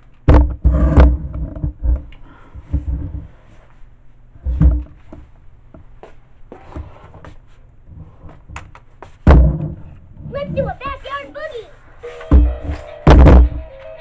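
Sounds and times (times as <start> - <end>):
heavy thumps: 0.0 - 3.4, 4.4 - 11.5, 12.2 - 13.7.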